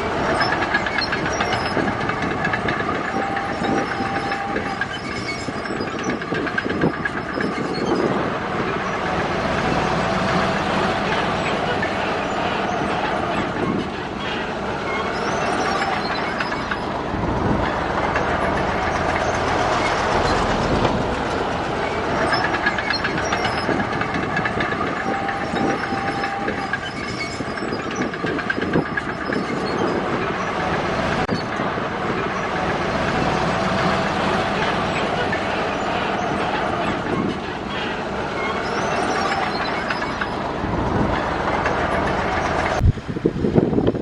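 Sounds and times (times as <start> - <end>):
diesel engine running under load: 0.0 - 44.0
steel tracks clanking and rattling: 0.0 - 44.0.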